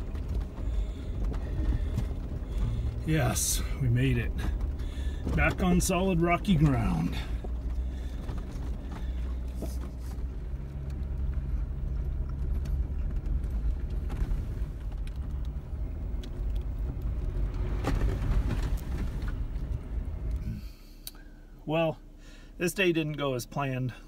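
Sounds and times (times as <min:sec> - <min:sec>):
engine and drivetrain drone: 0:00.0 - 0:24.0.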